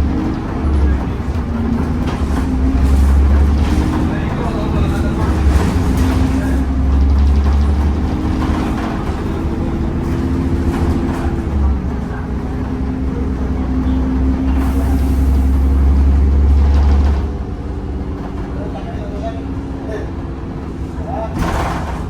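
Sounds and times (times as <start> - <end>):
bus engine hum and whine: 0.0 - 22.0.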